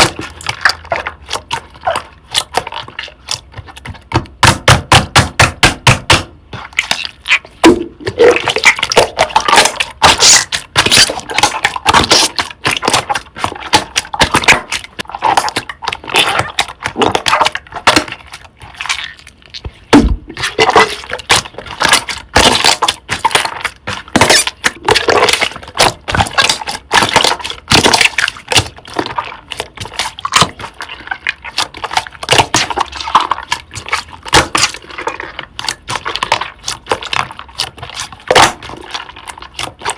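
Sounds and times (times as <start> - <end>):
slime clicking and crackling: 0.0 - 39.9.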